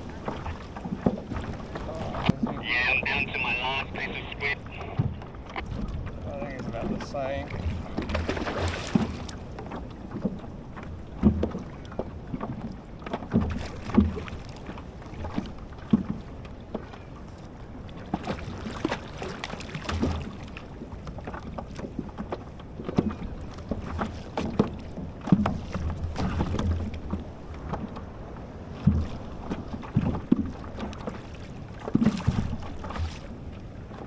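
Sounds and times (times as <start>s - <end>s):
water slapping against hull: 0.0s - 34.0s.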